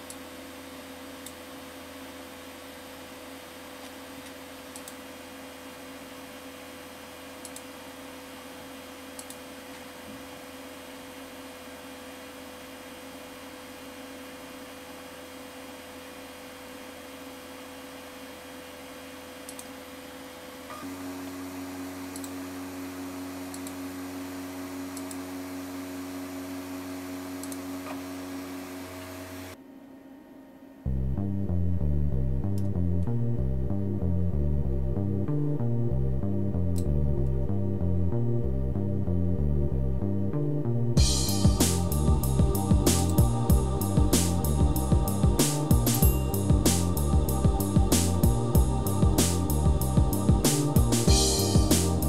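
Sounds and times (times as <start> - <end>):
computer hum: 0.0 - 52.0.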